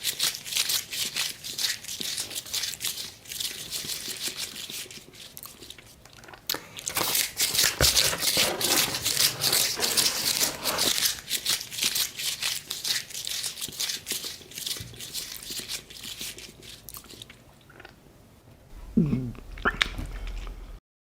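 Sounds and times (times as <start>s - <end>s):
crunchy eating sounds: 0.0s - 18.0s, 18.7s - 20.8s.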